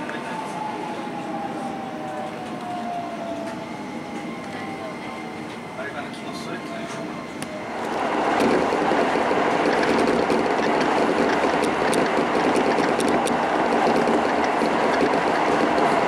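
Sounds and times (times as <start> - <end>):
train wheels rushing on rails: 1.6 - 16.0.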